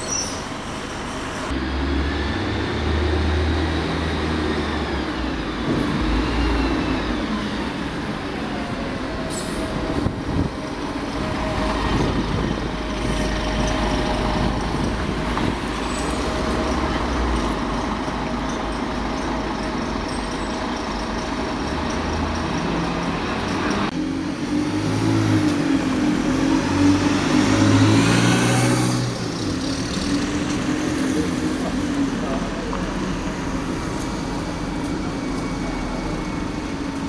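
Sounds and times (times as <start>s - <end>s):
heavy vehicle engines rumbling: 0.0s - 37.0s.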